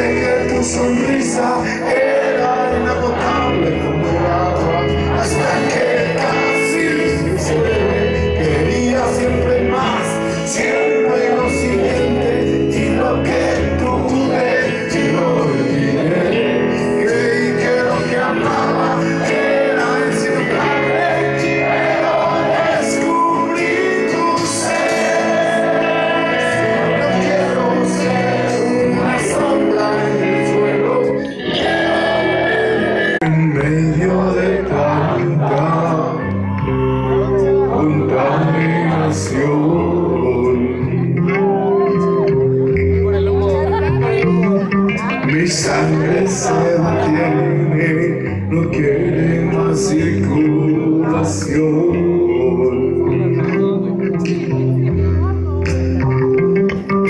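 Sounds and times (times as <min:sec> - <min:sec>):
live rock band: 0:00.0 - 0:57.0.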